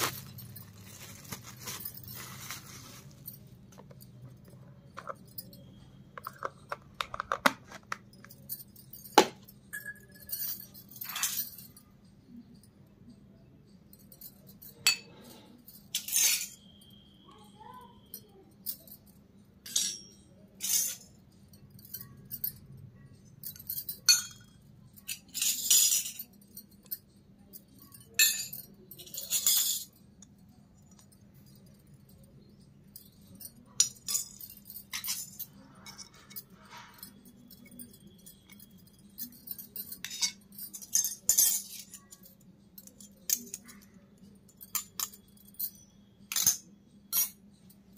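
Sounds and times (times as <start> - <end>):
metallic clinks of toy pots: 0.0 - 13.0, 13.7 - 47.9.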